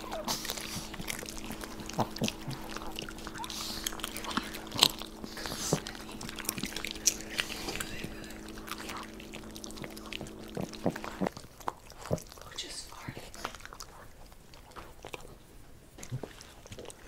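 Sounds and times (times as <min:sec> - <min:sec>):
dogs crunching popcorn: 0:00.0 - 0:17.0
steady low hum: 0:00.0 - 0:17.0.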